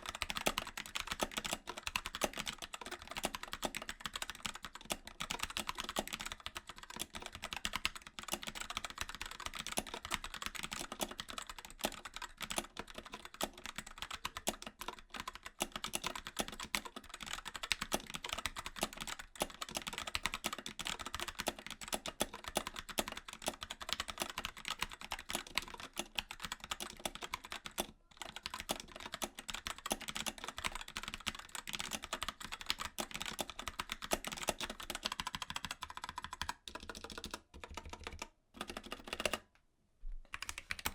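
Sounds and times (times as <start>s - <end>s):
fast mechanical keyboard typing: 0.0s - 39.5s, 40.3s - 40.9s.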